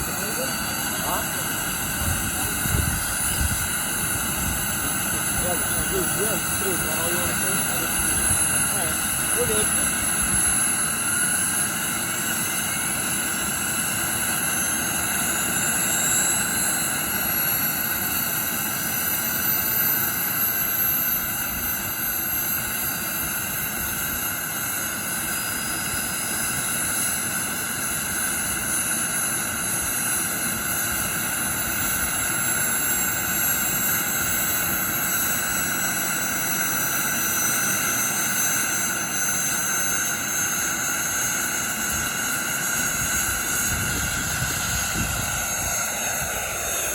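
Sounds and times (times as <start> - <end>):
model helicopter turbine whine: 0.0 - 46.9.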